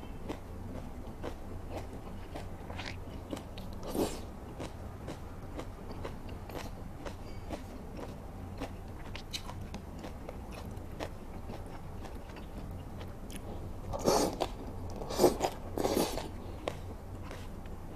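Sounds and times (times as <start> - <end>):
wet chewing: 0.3 - 17.5.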